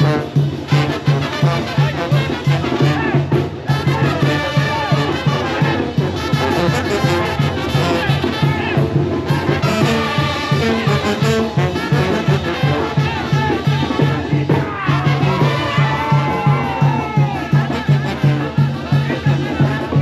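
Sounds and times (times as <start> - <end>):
brass band music: 0.0 - 20.0.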